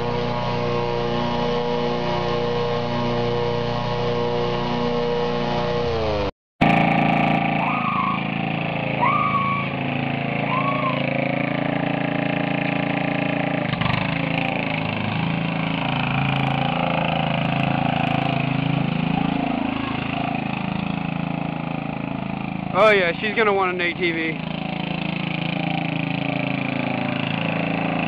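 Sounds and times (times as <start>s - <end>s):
riding lawn mower engine: 0.0s - 28.0s.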